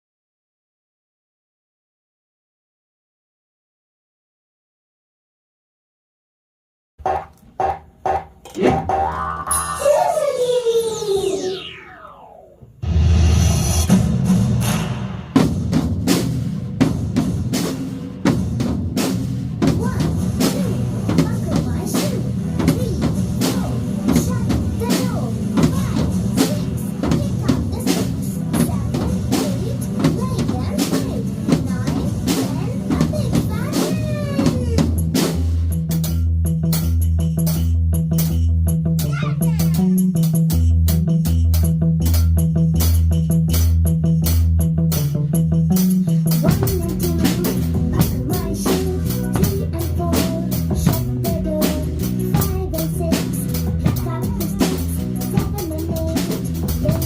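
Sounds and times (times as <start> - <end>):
drum-kit beat: 7.0 - 11.9, 12.8 - 57.0
instrumental band music: 7.0 - 57.0.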